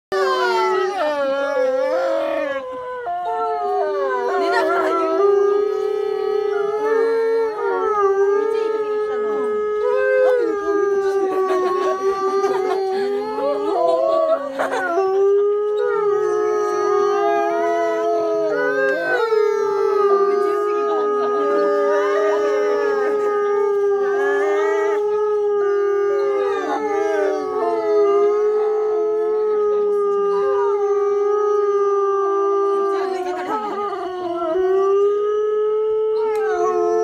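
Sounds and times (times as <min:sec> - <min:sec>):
wolves howling: 0:00.1 - 0:37.0.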